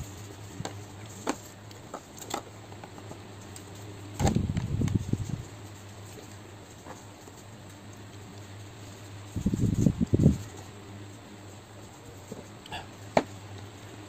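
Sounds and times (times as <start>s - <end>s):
mouth and handling noise: 0.0s - 14.0s
steady low hum: 0.0s - 14.0s.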